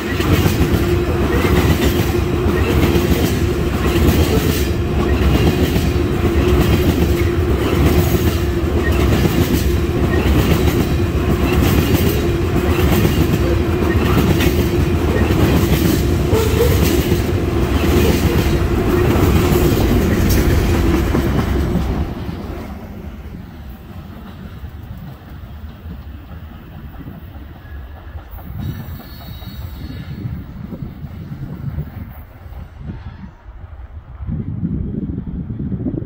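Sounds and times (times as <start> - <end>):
freight train rumble: 0.0 - 36.0.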